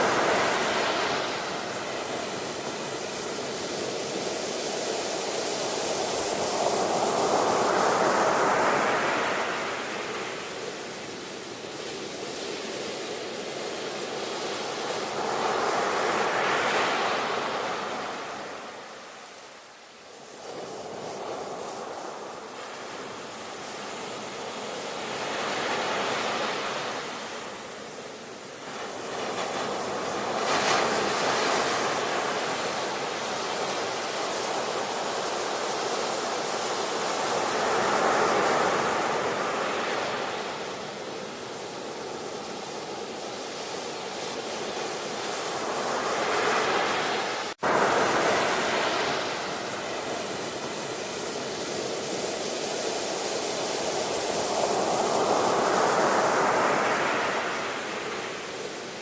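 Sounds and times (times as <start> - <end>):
ocean waves breaking: 0.0 - 19.4, 20.1 - 59.0.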